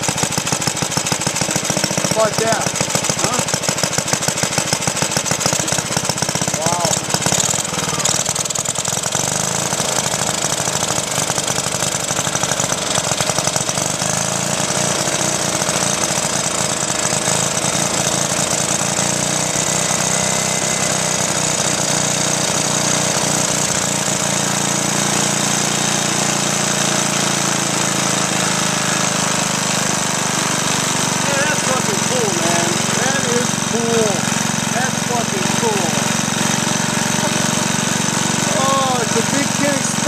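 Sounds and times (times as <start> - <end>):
single-cylinder engine running: 0.0 - 40.0.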